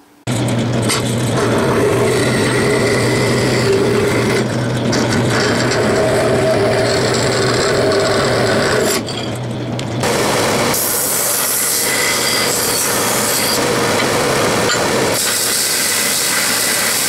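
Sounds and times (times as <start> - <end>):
bandsaw motor hum: 0.3 - 17.0
bandsaw blade cutting metal: 0.8 - 9.4, 10.0 - 17.0.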